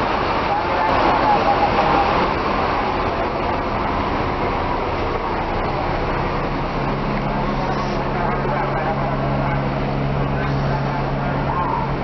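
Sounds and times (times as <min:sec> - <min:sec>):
bus engine: 0:00.0 - 0:12.0
road noise: 0:00.0 - 0:12.0.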